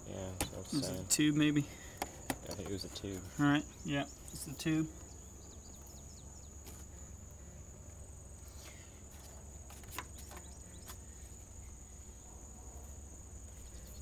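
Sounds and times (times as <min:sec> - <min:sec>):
high insect trill: 0:00.0 - 0:14.0.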